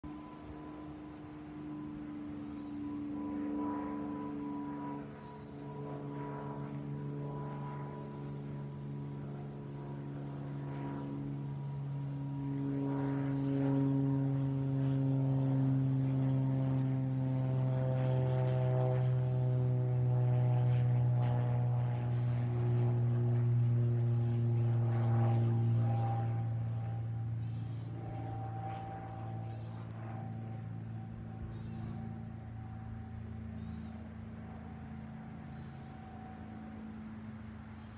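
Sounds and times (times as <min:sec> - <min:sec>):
propeller plane droning overhead: 0:00.0 - 0:37.9.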